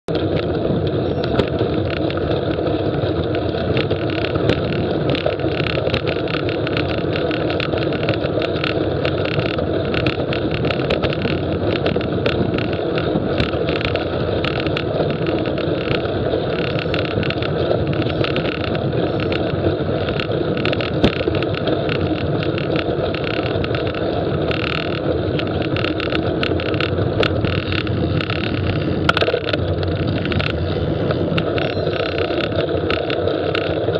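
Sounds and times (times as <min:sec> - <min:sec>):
bicycle road rumble: 0:00.1 - 0:33.9
small clicks and rattles: 0:00.1 - 0:33.9
wind rush: 0:00.1 - 0:33.9.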